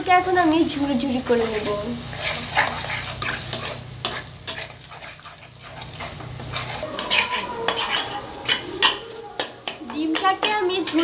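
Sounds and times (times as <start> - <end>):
eggs sizzling in oil: 0.0 - 11.0
spatula scraping a pan: 1.3 - 11.0.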